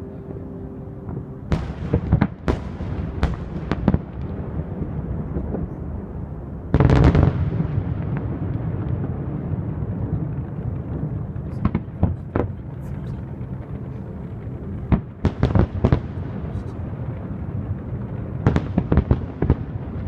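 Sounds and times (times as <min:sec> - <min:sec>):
low rumble and crackle: 0:00.0 - 0:20.0
loud firework blast: 0:01.5 - 0:13.2, 0:14.8 - 0:20.0.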